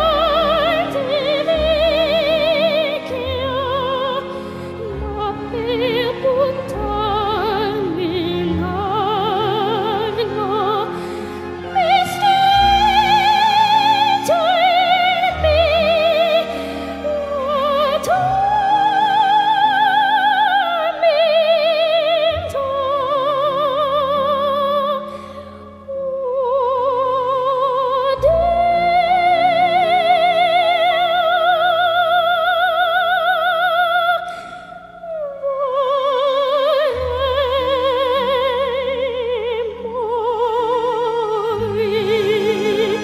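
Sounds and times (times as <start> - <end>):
operatic singing: 0.0 - 43.0.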